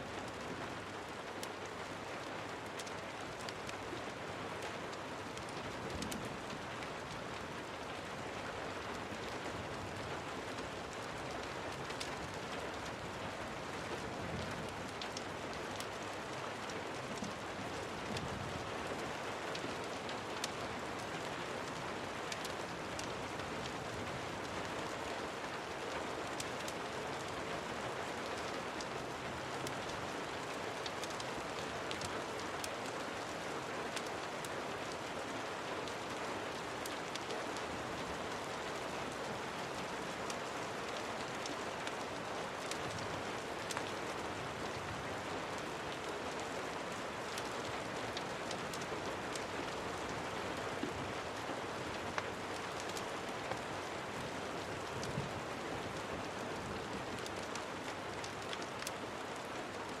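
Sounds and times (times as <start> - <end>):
steady rain: 0.0 - 60.0
wood fire crackles: 0.0 - 60.0.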